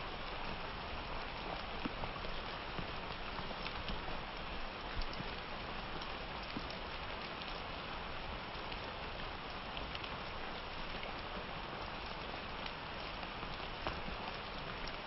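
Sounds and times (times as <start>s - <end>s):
raindrops ticking on a surface: 0.0s - 15.0s
steady rain hiss: 0.0s - 15.0s.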